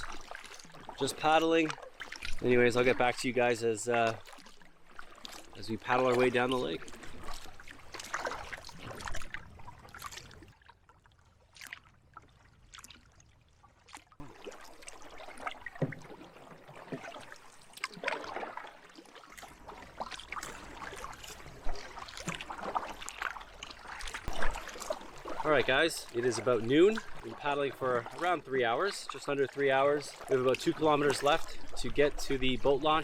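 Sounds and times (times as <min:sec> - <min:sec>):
paddles dipping through water: 0:00.0 - 0:33.0
water splashes and drips: 0:00.0 - 0:33.0.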